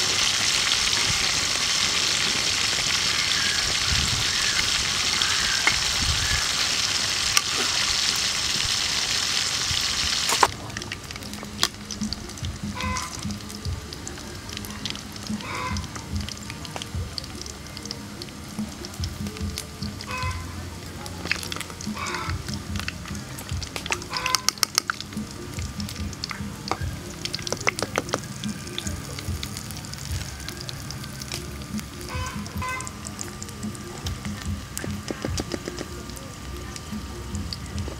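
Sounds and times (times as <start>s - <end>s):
meat sizzling in oil: 0.0s - 37.9s
oil crackling: 0.0s - 37.9s.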